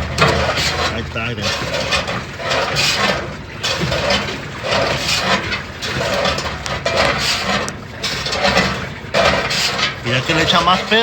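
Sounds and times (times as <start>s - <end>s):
tub scraping against metal panel: 0.0s - 11.0s
washing machine agitating: 0.0s - 11.0s.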